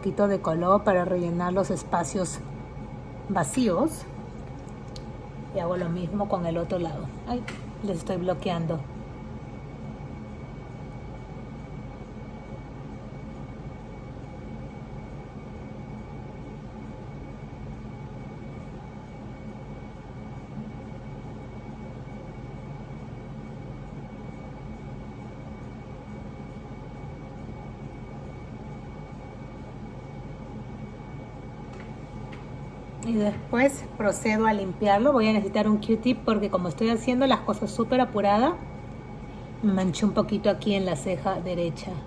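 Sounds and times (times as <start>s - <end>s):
machinery hum: 0.0s - 42.0s.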